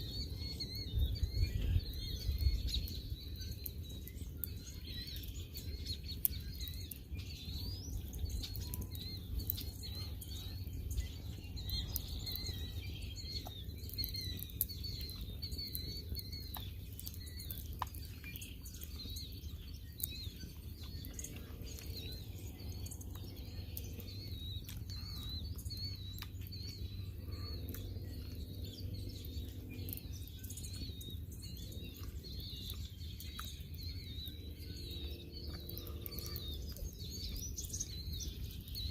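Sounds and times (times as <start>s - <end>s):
low outdoor rumble: 0.0s - 38.9s
songbirds chirping and twittering: 0.0s - 38.9s.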